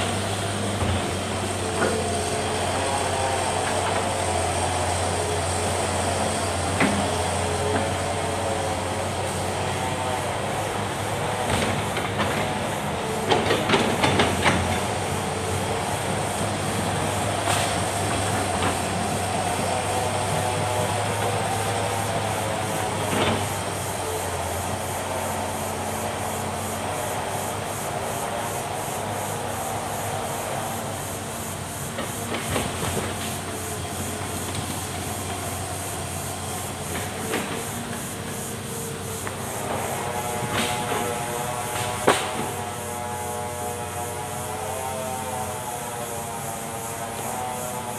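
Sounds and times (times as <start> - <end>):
excavator engine running: 0.0 - 47.9
hydraulics hissing: 0.0 - 47.9.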